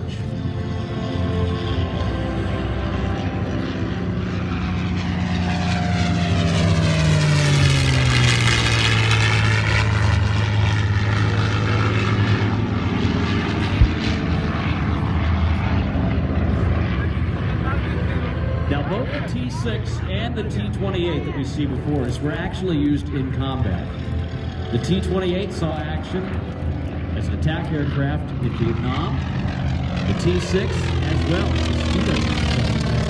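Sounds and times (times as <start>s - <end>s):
propeller plane engine passing: 0.0s - 33.0s.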